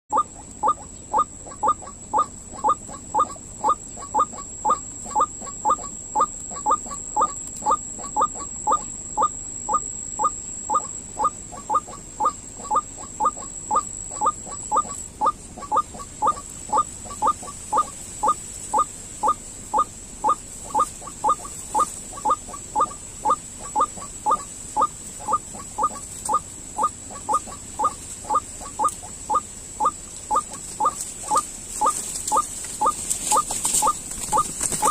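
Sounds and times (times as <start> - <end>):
faint high whine: 0.1 - 34.9
waterhen calling: 0.1 - 34.9.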